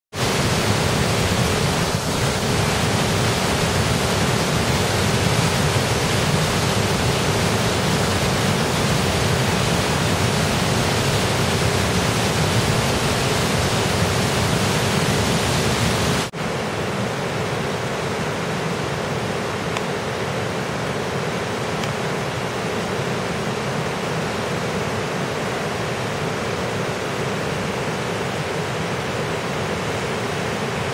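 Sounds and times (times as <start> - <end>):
floodwater rushing in a river: 0.1 - 30.9.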